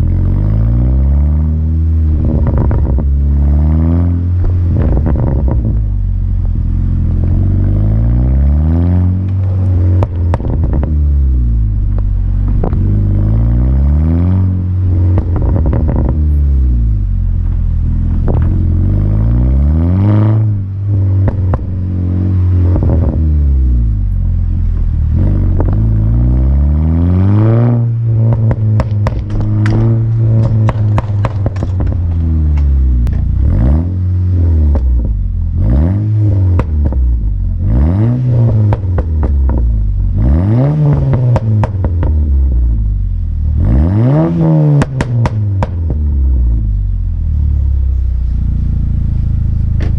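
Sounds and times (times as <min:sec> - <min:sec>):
car engine revving: 0:00.0 - 0:49.9
exhaust crackles and pops: 0:00.0 - 0:49.9.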